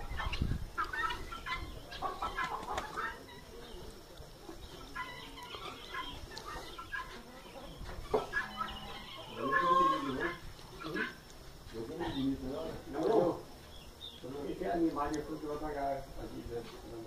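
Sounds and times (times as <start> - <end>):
hens and guineafowl calling: 0.0 - 17.0.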